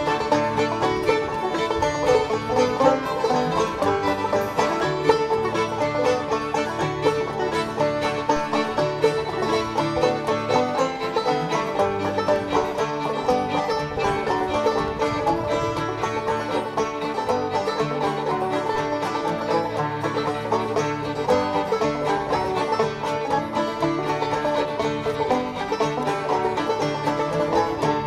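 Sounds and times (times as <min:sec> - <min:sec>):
plucked banjo music: 0:00.0 - 0:28.0.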